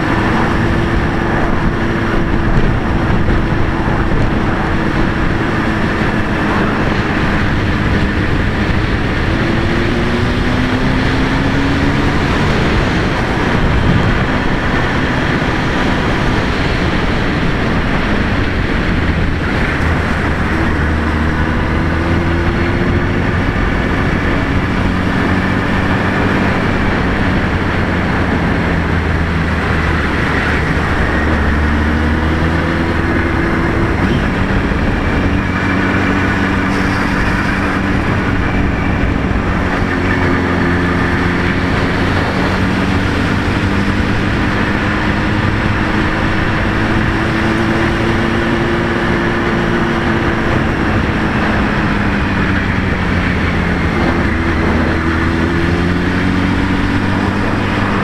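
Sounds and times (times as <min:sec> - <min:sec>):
motorcycle engine revving: 0:00.0 - 0:58.0
wind noise on microphone: 0:00.0 - 0:58.0.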